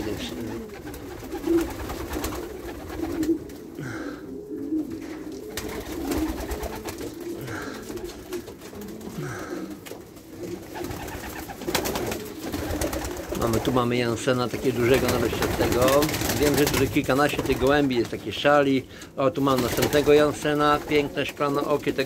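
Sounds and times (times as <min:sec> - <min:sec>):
pigeons cooing: 0:00.0 - 0:17.9.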